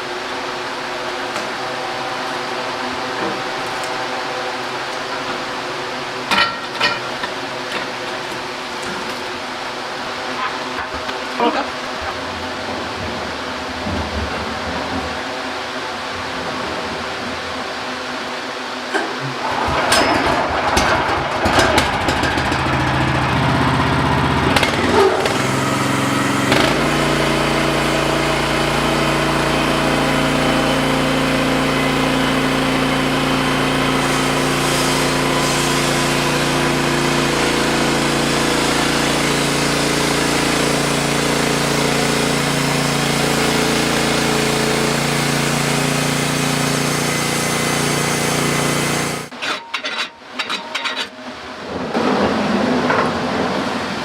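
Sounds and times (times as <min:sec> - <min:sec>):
band sawmill engine running: 0:00.0 - 0:51.2.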